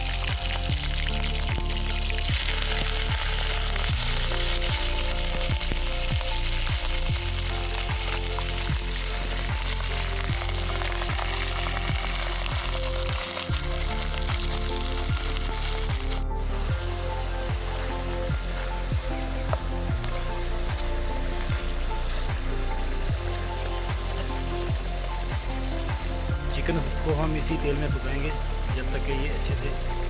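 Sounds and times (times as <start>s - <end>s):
chicken sizzling in hot oil: 0.0s - 16.2s, 16.9s - 30.0s
background music with steady beat: 0.0s - 30.0s.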